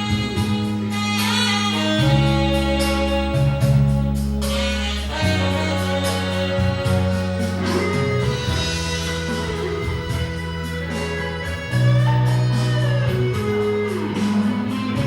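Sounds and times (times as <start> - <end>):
instrumental karaoke music: 0.0 - 15.0.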